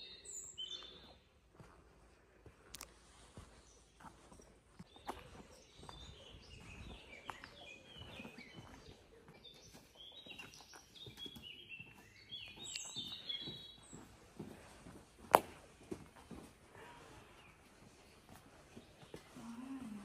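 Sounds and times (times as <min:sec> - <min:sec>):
small birds chirping: 0:00.0 - 0:20.0
footsteps on a path: 0:00.1 - 0:20.0.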